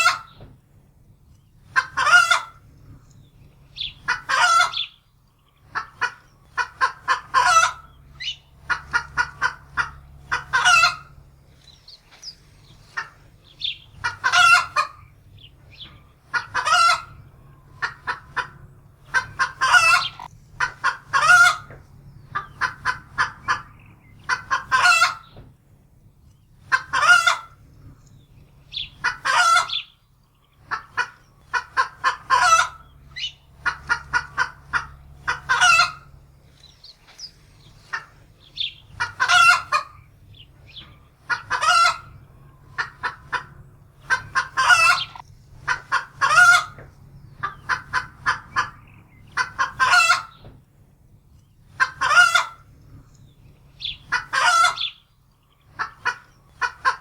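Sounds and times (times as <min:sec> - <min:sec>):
hen cackling in alarm: 0:00.0 - 0:00.4, 0:01.6 - 0:02.7, 0:03.7 - 0:05.0, 0:05.6 - 0:25.4, 0:26.6 - 0:27.6, 0:28.6 - 0:30.0, 0:30.6 - 0:50.4, 0:51.6 - 0:52.8, 0:53.7 - 0:57.0.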